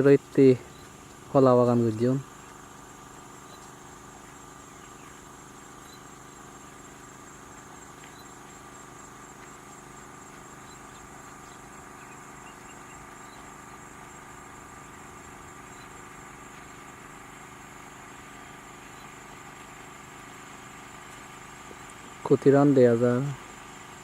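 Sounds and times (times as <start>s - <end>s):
faint low hum: 0.0s - 24.0s
insects buzzing: 0.0s - 24.0s.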